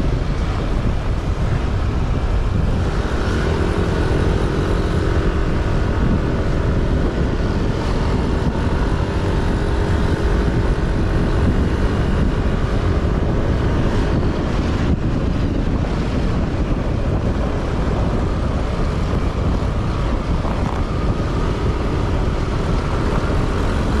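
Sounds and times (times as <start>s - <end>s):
heavy low rumble: 0.0s - 24.0s
vehicle engine and road noise: 0.0s - 24.0s.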